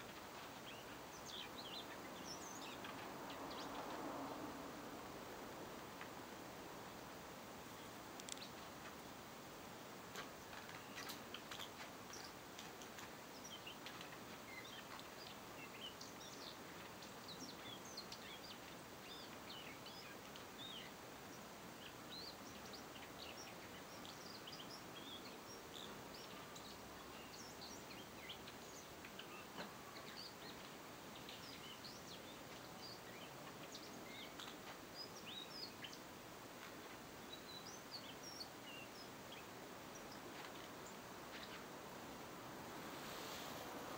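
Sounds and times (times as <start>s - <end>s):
bird chirps and ticks: 0.0s - 4.0s, 8.2s - 9.0s, 10.1s - 41.7s
steady background hiss: 0.0s - 43.9s.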